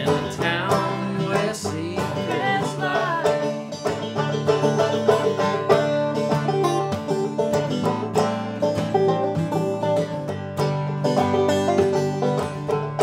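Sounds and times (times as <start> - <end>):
acoustic guitar backing: 0.0 - 13.0
banjo picking: 0.0 - 13.0.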